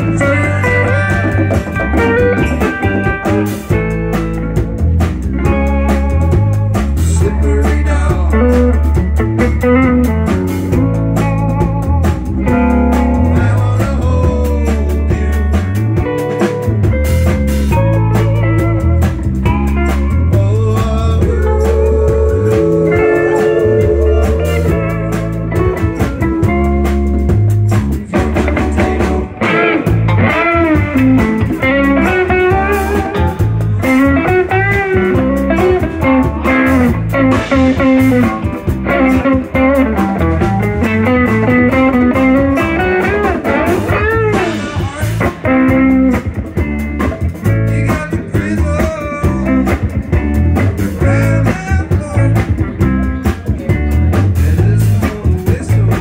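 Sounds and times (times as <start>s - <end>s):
bass line: 0.0s - 56.0s
bending lead guitar melody: 0.0s - 56.0s
drum kit: 0.0s - 56.0s
electric guitar: 0.0s - 56.0s.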